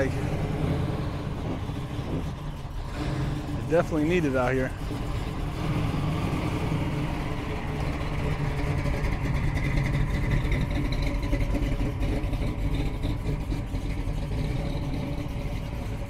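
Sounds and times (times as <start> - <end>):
car engines driving off: 0.0 - 16.0.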